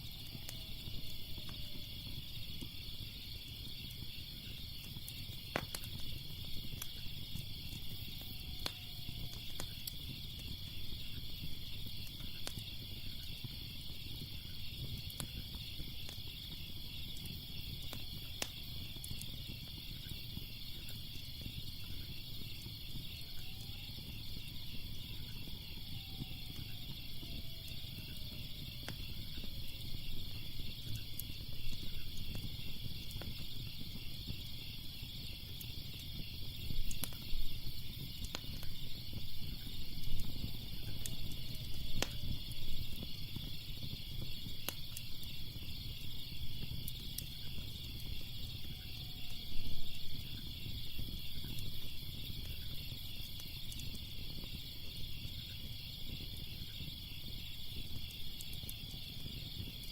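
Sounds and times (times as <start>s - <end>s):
crickets chirping: 0.0s - 59.9s
wood fire popping and crackling: 0.0s - 59.9s.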